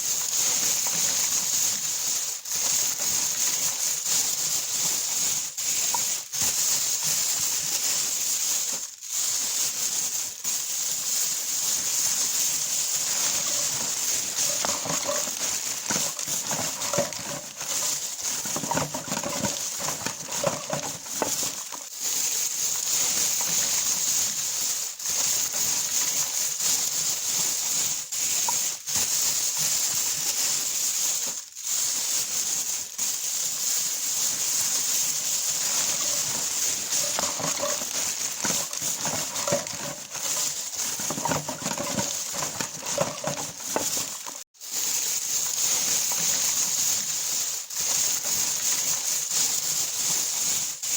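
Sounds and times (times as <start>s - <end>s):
plastic bag rustling and crinkling: 0.0s - 50.9s.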